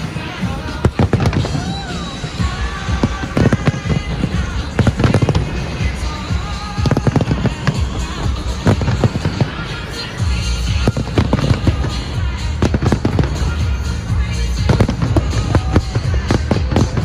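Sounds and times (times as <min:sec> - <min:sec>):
fireworks bangs and crackles: 0:00.0 - 0:17.0
music soundtrack: 0:00.0 - 0:17.0.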